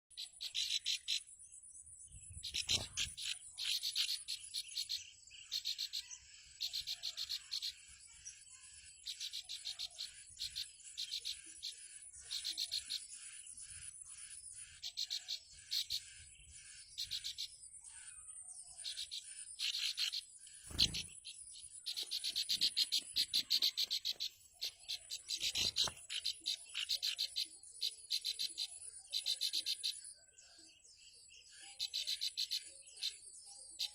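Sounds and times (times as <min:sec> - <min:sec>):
bird harsh ticking alarm calls: 0:00.1 - 0:30.1, 0:31.5 - 0:33.9.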